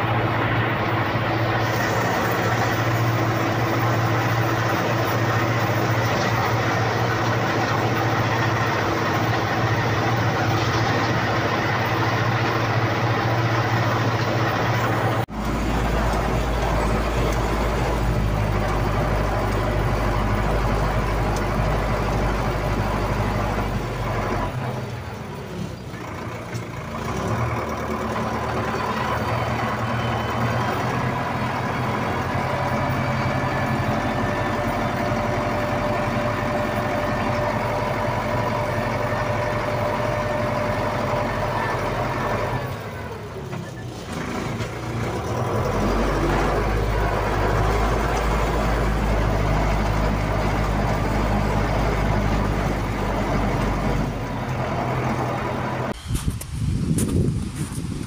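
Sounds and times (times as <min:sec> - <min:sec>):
snow plow engine rumbling: 0:00.0 - 0:58.0.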